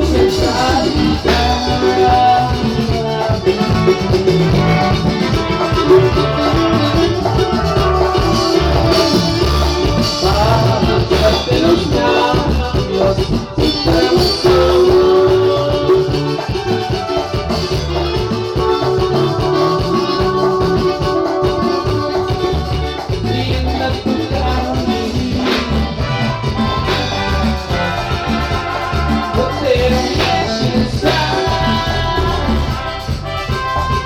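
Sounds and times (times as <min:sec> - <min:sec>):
latin band music: 0:00.0 - 0:34.0.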